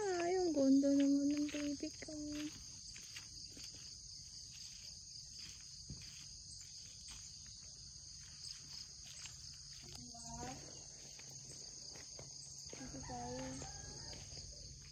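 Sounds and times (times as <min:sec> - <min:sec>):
high-pitched insect chorus: 0:00.0 - 0:14.9.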